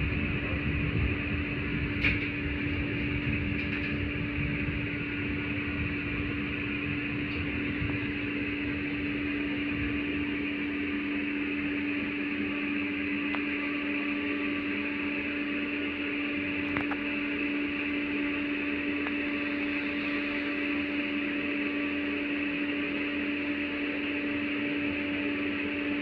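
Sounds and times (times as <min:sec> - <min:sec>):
tram cabin hum: 0:00.0 - 0:26.0.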